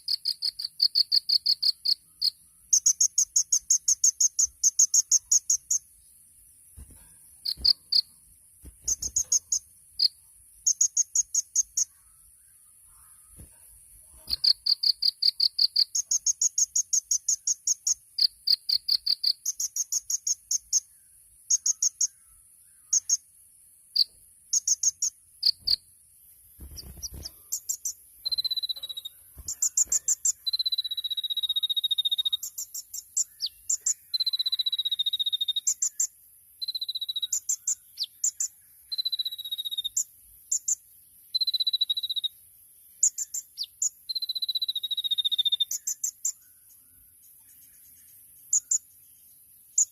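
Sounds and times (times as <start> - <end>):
bird singing fast trills: 0.0 - 6.2, 6.8 - 13.5, 14.2 - 25.9, 26.6 - 49.9
steady high insect-like hiss: 0.0 - 49.9.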